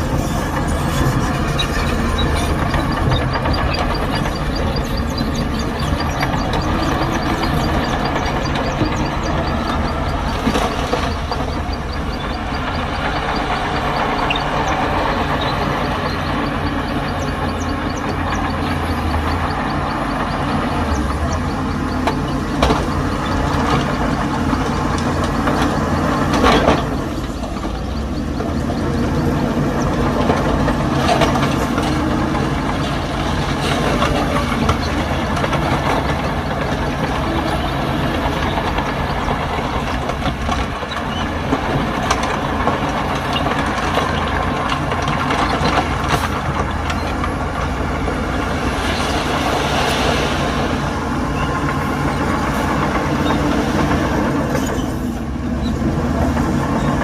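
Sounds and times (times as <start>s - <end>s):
diesel earthmoving machinery engines: 0.0s - 57.0s.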